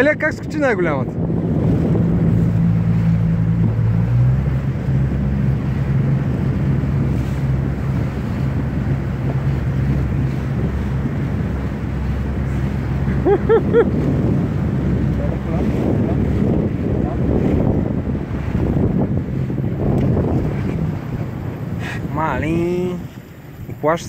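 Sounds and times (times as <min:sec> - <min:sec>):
outboard motor running: 0:00.0 - 0:24.0
wind buffeting microphone: 0:00.0 - 0:24.0.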